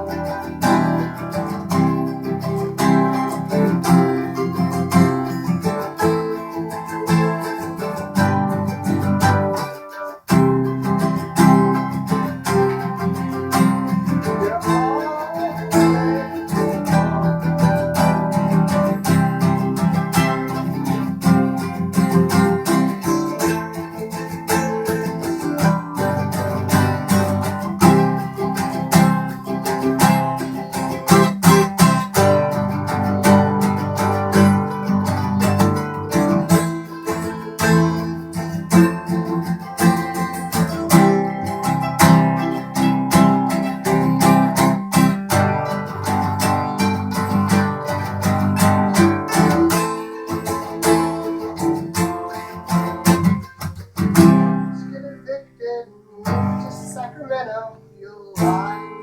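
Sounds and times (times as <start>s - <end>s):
guitar strumming chords: 0.0s - 59.0s.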